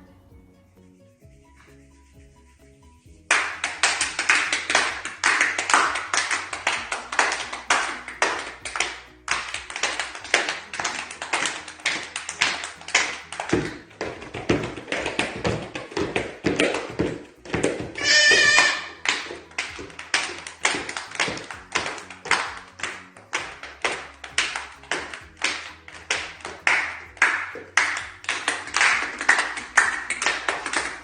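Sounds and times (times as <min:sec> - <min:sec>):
hands clapping and tapping: 0:03.2 - 0:31.0.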